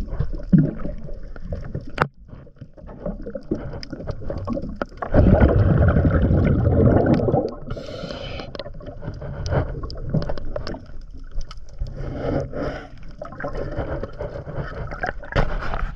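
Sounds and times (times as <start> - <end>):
water gurgling and bubbling: 0.0 - 15.9.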